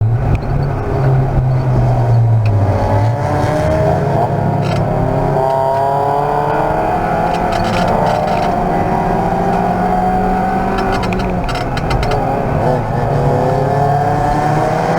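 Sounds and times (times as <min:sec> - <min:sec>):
race car engine accelerating: 0:00.0 - 0:14.9.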